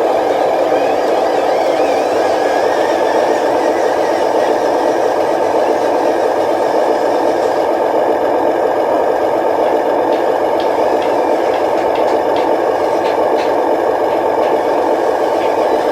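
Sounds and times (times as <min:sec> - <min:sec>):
electric motor and gearbox whirring: 0:00.0 - 0:15.9.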